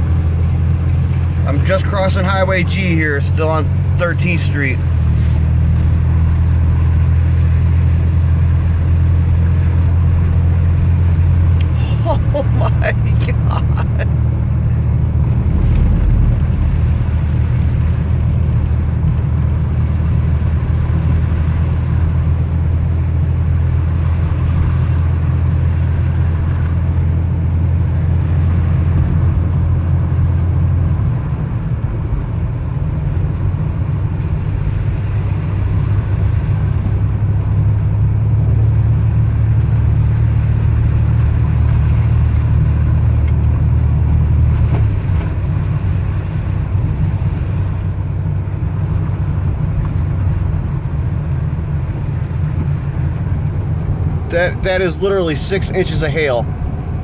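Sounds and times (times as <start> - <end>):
car engine and road drone: 0.0 - 57.0.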